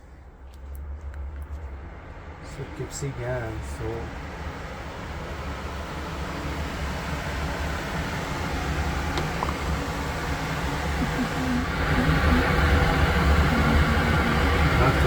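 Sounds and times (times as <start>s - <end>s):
furnace motor hum: 1.8s - 15.0s.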